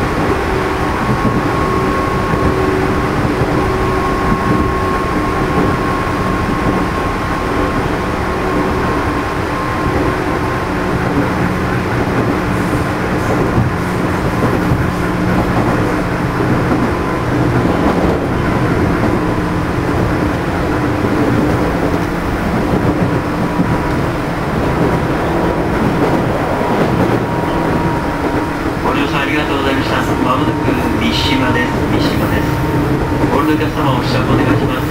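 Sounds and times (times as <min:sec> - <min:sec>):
train motor whine: 0:00.0 - 0:34.9
wheels rumbling on rail: 0:00.0 - 0:34.9.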